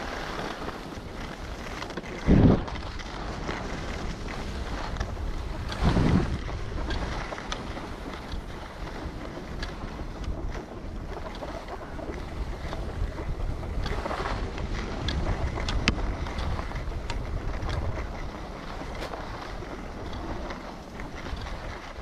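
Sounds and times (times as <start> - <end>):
skis hissing over snow: 0.0 - 22.0
wind rushing over microphone: 0.0 - 22.0.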